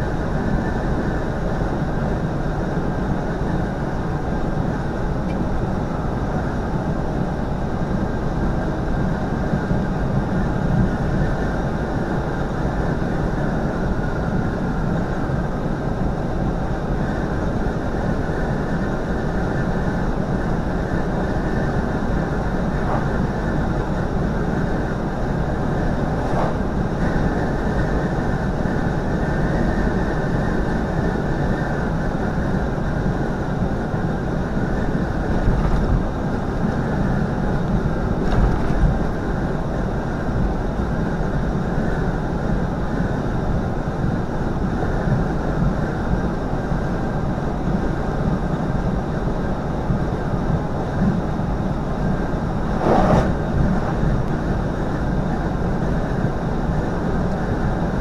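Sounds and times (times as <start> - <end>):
truck engine and tyre drone: 0.0 - 40.9, 51.0 - 57.8.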